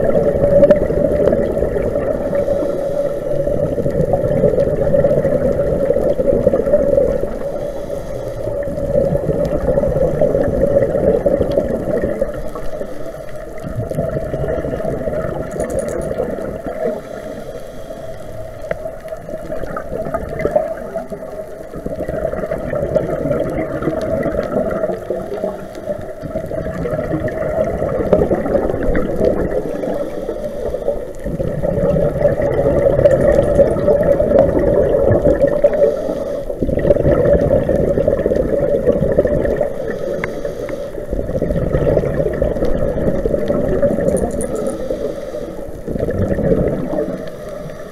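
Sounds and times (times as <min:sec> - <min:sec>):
underwater exhaust bubbles gurgling: 0:00.0 - 0:47.9.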